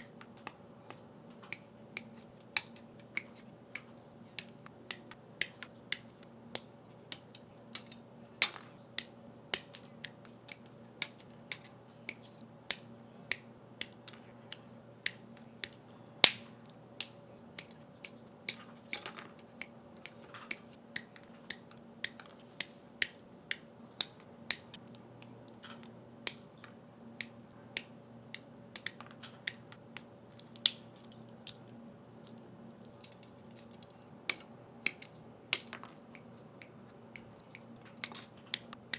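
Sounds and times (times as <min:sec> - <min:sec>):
plastic model parts clicking: 0:00.0 - 0:16.4, 0:17.0 - 0:38.9.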